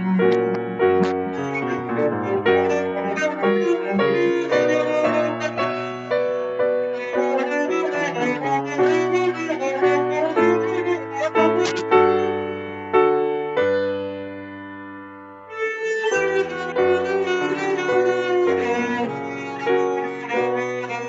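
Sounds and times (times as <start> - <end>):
cello bowed: 0.0 - 14.4, 15.5 - 21.0
piano accompaniment: 0.0 - 21.0.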